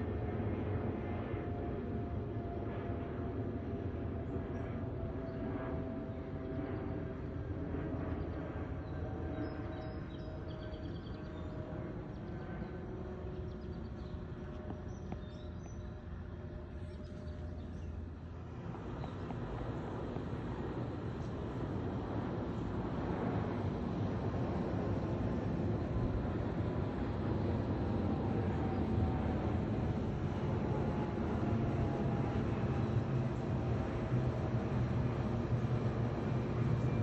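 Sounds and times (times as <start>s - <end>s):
jet airliner passing overhead: 0.0s - 37.0s.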